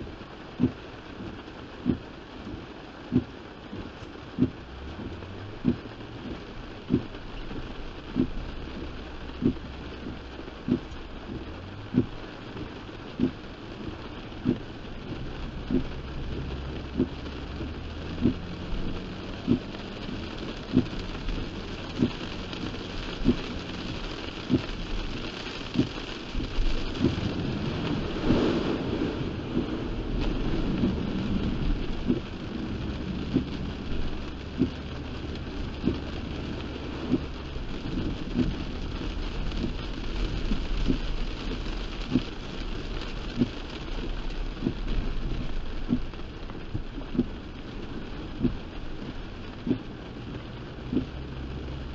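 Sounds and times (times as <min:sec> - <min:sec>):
heavy rain drumming on a car: 0:00.0 - 0:51.9
windshield wipers knocking: 0:00.5 - 0:51.9.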